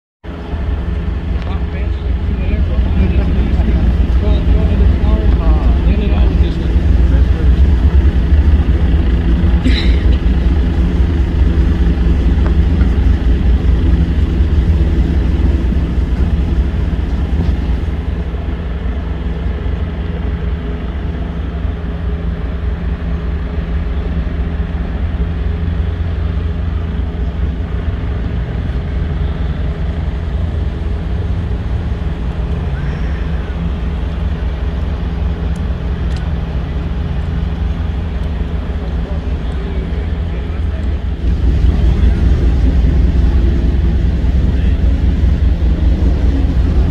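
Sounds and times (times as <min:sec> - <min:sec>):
loud engine drone: 0:00.2 - 0:46.9.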